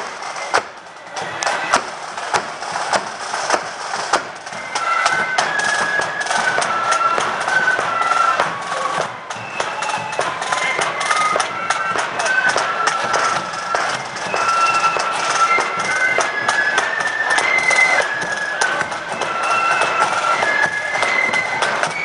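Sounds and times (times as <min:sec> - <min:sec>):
drums beating march rhythm: 0:00.0 - 0:22.0
flutes playing melody: 0:00.0 - 0:22.0.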